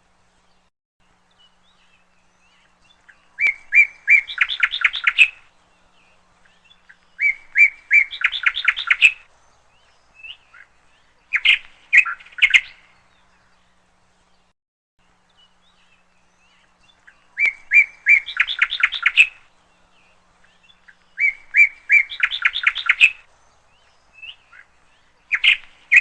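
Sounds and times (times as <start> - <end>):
bird chirping with trill: 1.3 - 14.5, 15.2 - 26.0.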